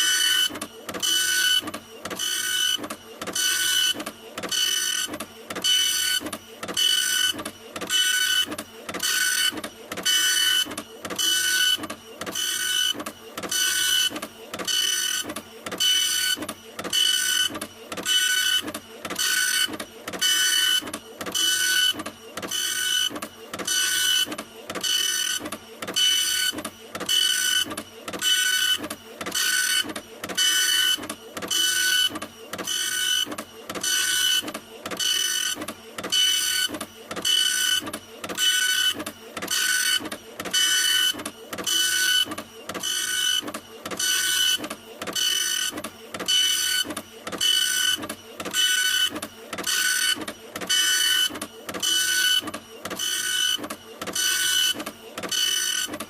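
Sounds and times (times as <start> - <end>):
printer head sweeping: 0.0 - 56.0.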